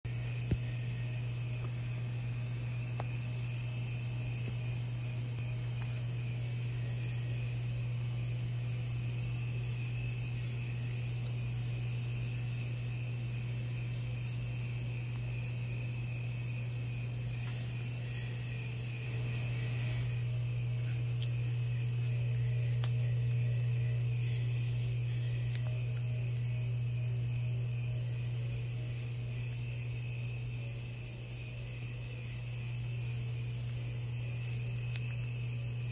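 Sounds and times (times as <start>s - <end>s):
crickets chirping: 0.1s - 35.9s
steady low hum: 0.1s - 35.9s.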